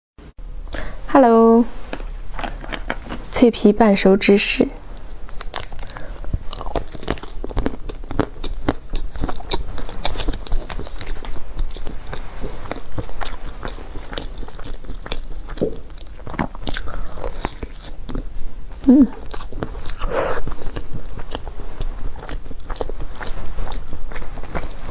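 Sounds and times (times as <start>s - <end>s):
crisp bites and chewing: 1.9s - 3.3s, 4.9s - 18.4s, 19.2s - 24.8s.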